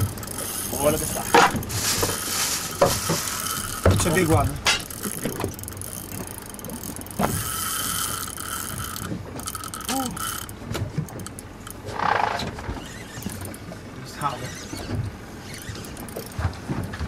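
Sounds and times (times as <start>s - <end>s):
fishing reel ratcheting whir: 0.0s - 13.6s, 14.2s - 16.4s
steady reel whine: 0.0s - 17.0s.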